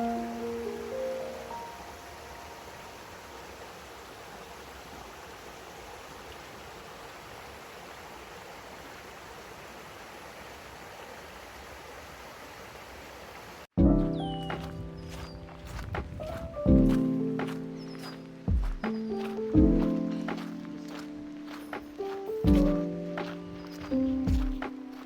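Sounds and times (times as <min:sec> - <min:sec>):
stream water flowing: 0:00.0 - 0:13.8, 0:14.5 - 0:25.0.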